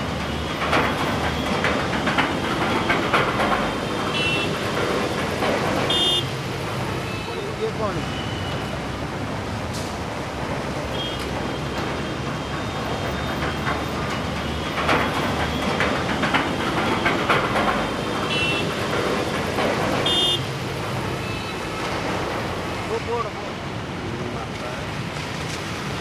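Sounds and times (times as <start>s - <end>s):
tyres hissing on wet road: 0.0s - 26.0s.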